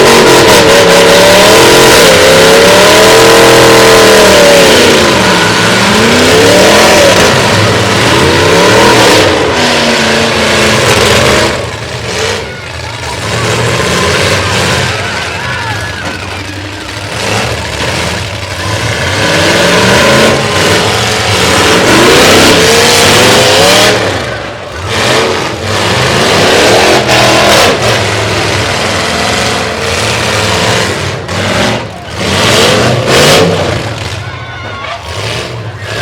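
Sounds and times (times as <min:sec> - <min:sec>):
truck engines revving: 0:00.0 - 0:36.0.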